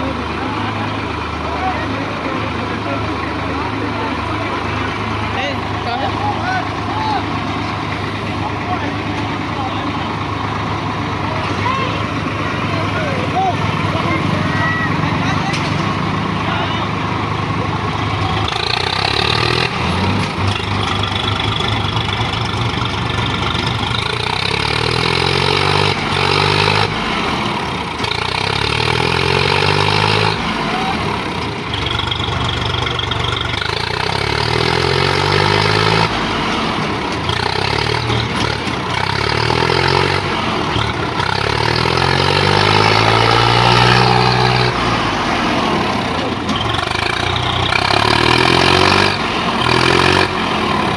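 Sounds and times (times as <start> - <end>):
tractor diesel engines revving: 0.0 - 50.9.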